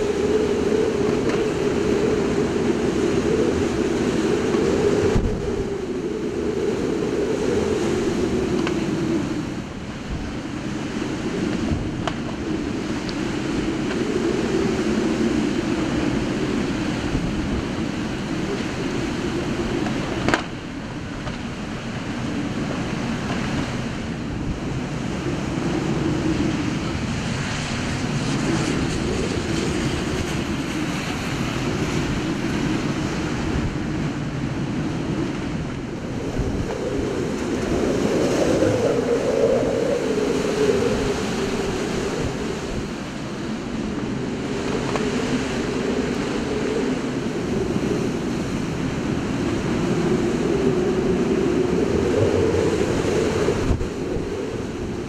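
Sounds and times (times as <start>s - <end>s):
strong wind buffeting microphone: 0.0s - 55.0s.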